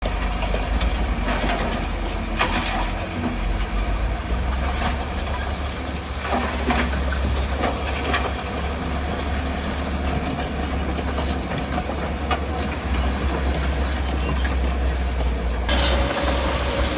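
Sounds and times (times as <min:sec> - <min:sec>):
heavy diesel machinery humming: 0:00.0 - 0:16.9
metallic clanks and squeals: 0:00.3 - 0:16.9.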